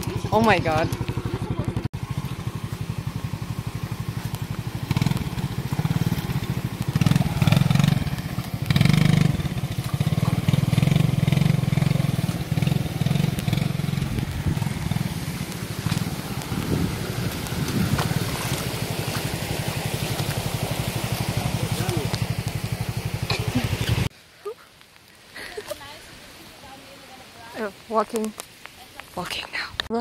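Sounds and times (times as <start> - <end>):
motorbike engine pulsing: 0.0 - 24.1.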